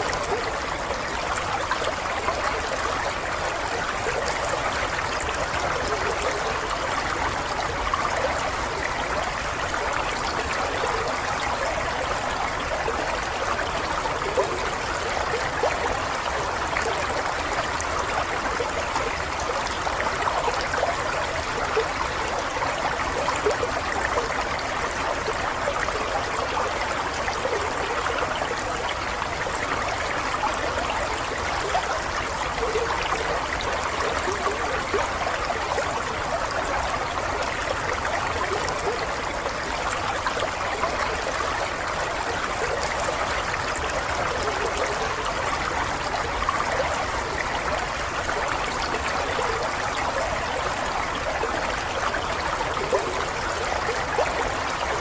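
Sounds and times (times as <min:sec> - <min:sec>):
stream flowing and gurgling: 0:00.0 - 0:55.0.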